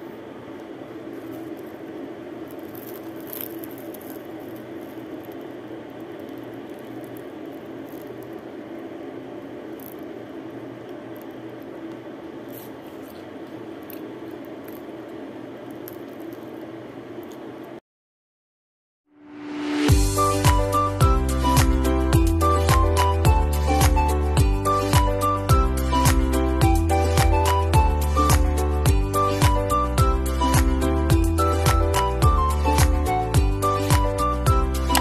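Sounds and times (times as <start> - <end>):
low hum and hiss: 0.0 - 17.8, 19.5 - 35.0.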